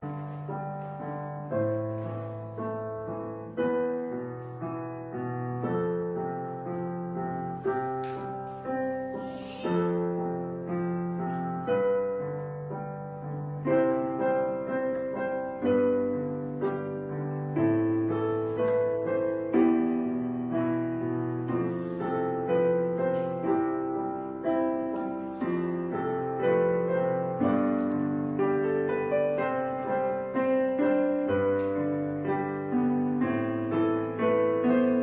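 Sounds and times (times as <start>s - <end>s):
slow gentle piano music: 0.0s - 35.0s.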